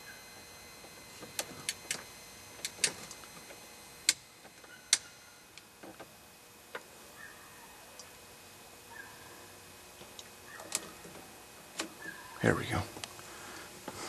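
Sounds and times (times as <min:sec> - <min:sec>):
faint high electronic whine: 0:00.0 - 0:14.0.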